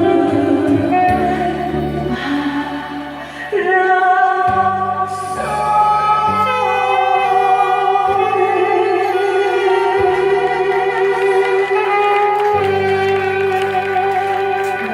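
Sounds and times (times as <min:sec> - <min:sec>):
amplified backing track: 0:00.0 - 0:14.9
woman singing a ballad: 0:00.0 - 0:14.9.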